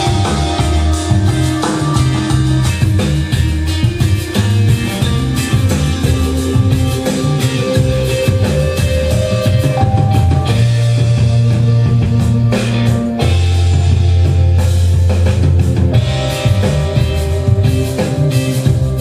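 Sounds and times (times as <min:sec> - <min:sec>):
rock music over loudspeakers: 0:00.0 - 0:19.0.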